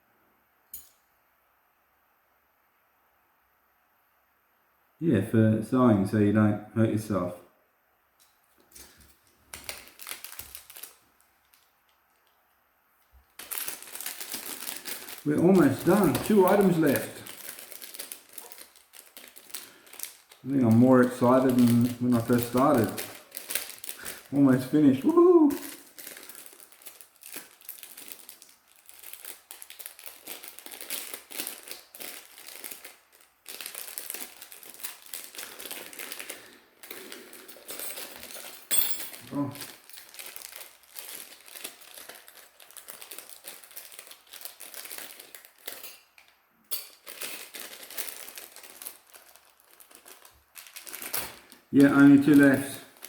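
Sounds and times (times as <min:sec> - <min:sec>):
plastic bag crinkling: 0:08.6 - 0:12.3, 0:13.2 - 0:53.0
plastic items clicking and rustling: 0:08.6 - 0:12.3, 0:13.4 - 0:53.0.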